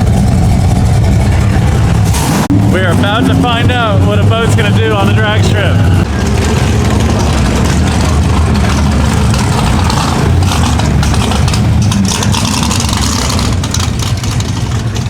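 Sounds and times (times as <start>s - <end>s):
loud engine rumbling: 0.0s - 15.0s.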